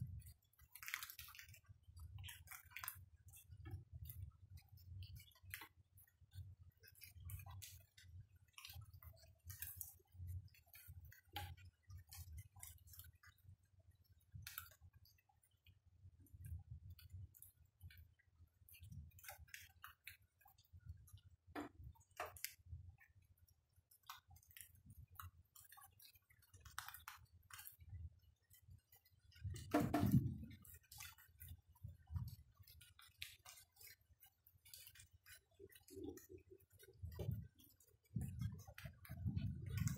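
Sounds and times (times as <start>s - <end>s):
raindrops dripping: 0.0s - 39.9s.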